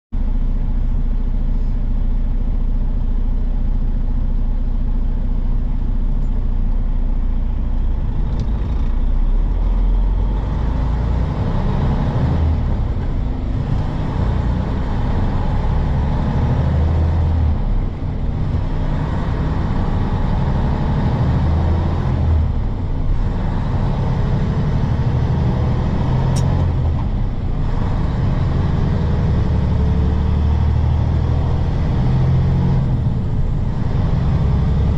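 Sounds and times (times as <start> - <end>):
truck diesel engine shifting gears: 6.1 - 34.9.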